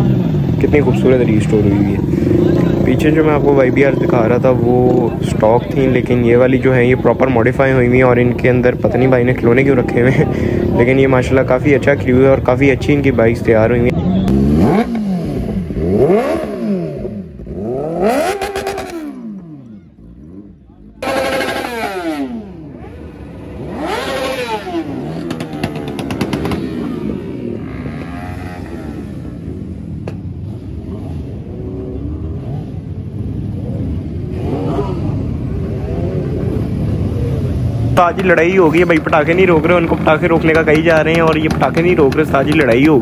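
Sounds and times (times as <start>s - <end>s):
exhaust crackles: 0.0s - 43.0s
motorcycle engine revving: 0.0s - 43.0s
motorcycle engines running: 0.0s - 43.0s.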